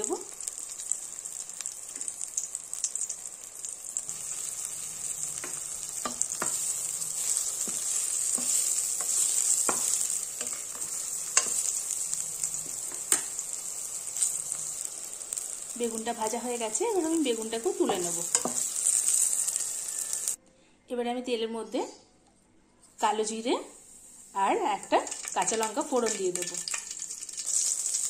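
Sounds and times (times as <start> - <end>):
eggplant sizzling in oil: 0.0 - 20.4, 23.8 - 28.0.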